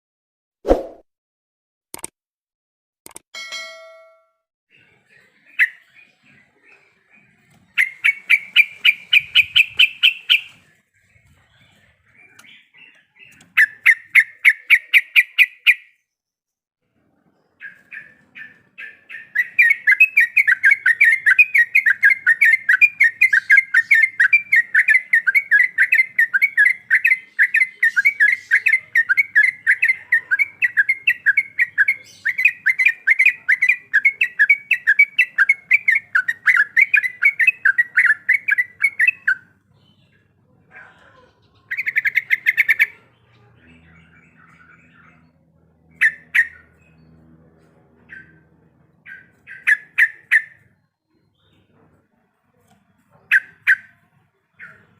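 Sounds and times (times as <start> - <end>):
bird chattering song: 4.7 - 16.2, 17.4 - 47.4, 48.0 - 52.0, 52.6 - 54.9.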